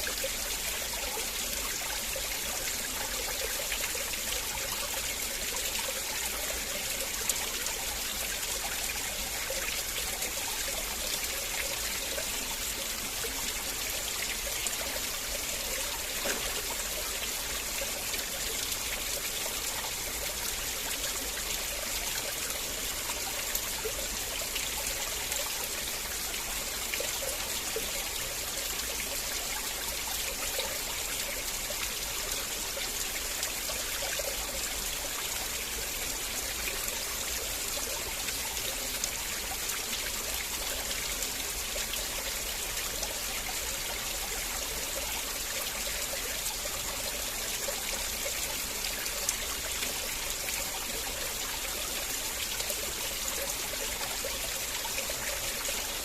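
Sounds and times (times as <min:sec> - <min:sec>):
river water flowing: 0:00.0 - 0:56.0
water trickling: 0:00.0 - 0:56.0.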